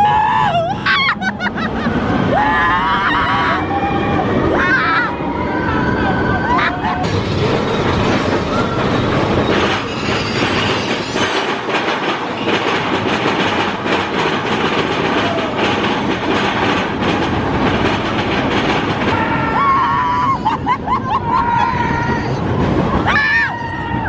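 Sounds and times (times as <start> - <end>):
roller coaster wheels rattling: 0.0 - 24.0.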